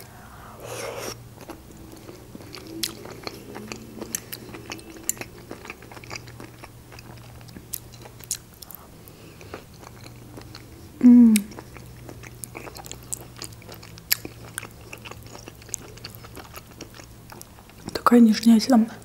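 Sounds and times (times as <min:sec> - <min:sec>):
close chewing: 0:01.4 - 0:18.1.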